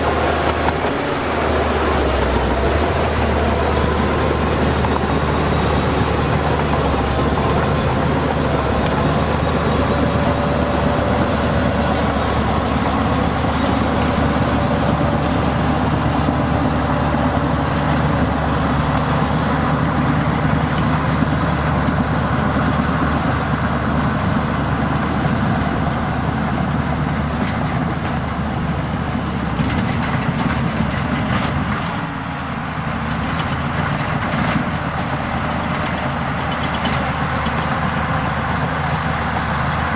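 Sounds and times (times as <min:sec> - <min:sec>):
diesel earthmoving machinery running: 0:00.0 - 0:39.9.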